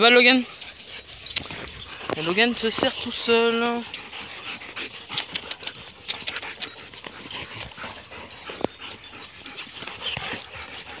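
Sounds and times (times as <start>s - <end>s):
dogs breathing and sniffing: 0.0s - 11.0s.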